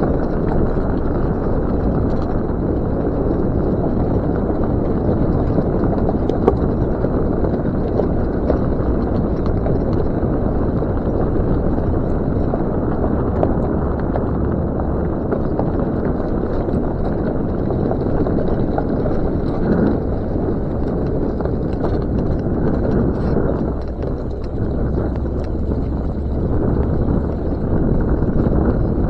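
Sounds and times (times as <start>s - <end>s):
engine and tyres on rough track: 0.0s - 29.0s.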